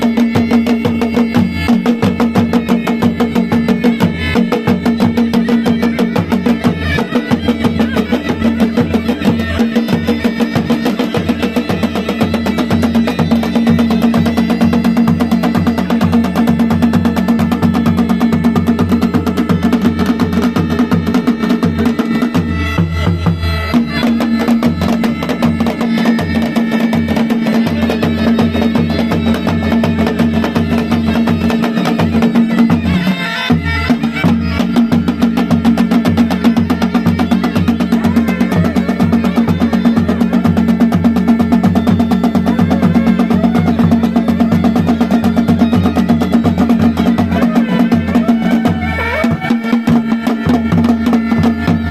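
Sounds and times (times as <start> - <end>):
bagpipe melody with drone: 0.0 - 51.9
drums beating fast rhythm: 0.0 - 51.9.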